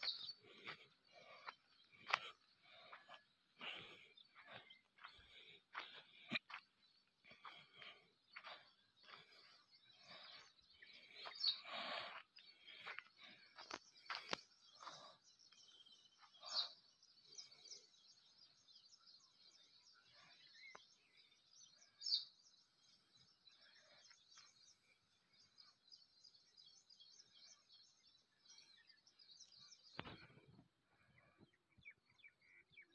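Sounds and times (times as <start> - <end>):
high chirping chorus: 0.0 - 30.4.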